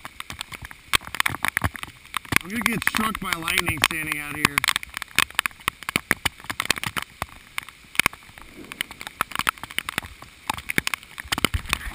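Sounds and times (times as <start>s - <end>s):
faint hiss of rain: 0.0s - 11.9s
rain tapping on camera housing: 0.0s - 11.9s.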